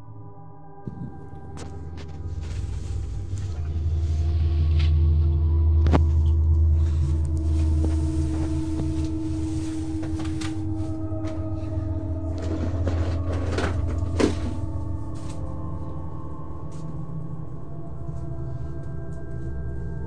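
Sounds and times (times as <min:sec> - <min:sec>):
deep ominous drone: 0:00.0 - 0:20.0.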